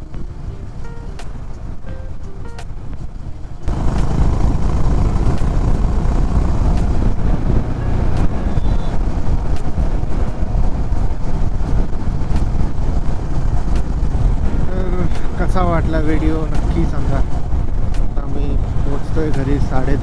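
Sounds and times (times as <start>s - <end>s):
motorcycle engine running: 0.0s - 20.0s
wind rushing over microphone: 0.0s - 20.0s.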